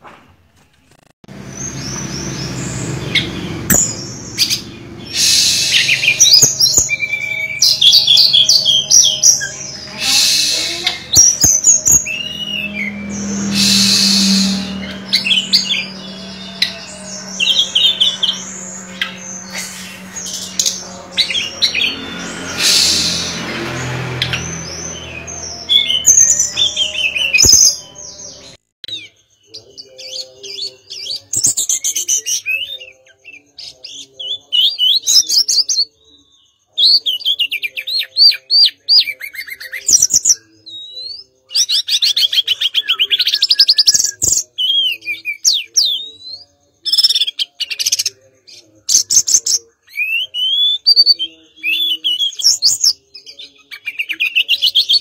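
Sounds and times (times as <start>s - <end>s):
bird singing trills and whistles: 1.5s - 55.0s.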